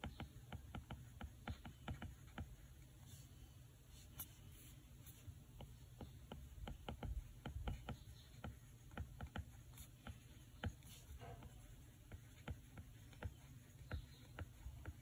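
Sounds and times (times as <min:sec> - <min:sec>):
tapping on tablet screen: 0:00.0 - 0:02.8, 0:05.5 - 0:15.0.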